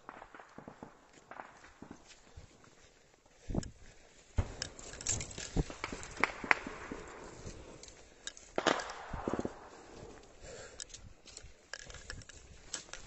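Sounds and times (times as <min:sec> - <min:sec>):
twigs cracking: 0:00.0 - 0:13.0
footsteps crunching on dry leaves: 0:00.4 - 0:13.0.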